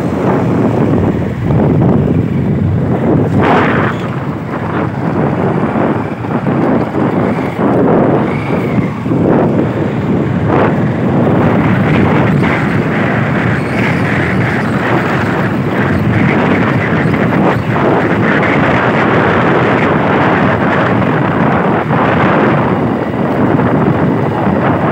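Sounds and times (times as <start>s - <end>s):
road and vehicle noise: 0.0s - 24.9s
wind roaring on microphone: 0.0s - 24.9s.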